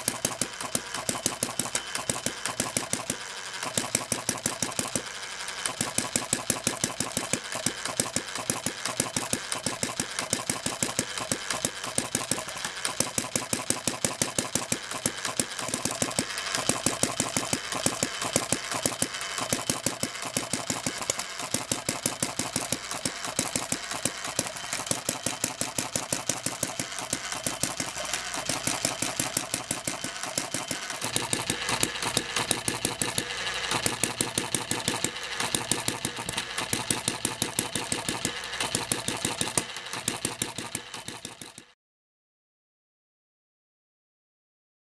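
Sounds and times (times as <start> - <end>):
small engine rapid clicking: 0.0 - 41.8.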